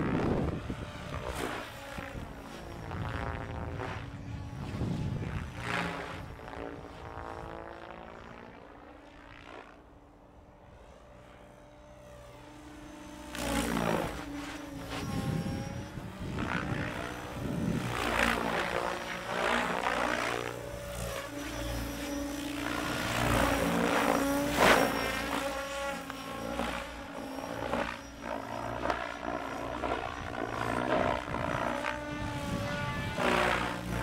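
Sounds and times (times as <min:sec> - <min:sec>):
motor whine: 0:00.0 - 0:34.0
rc helicopter rotor whoosh: 0:00.0 - 0:34.0.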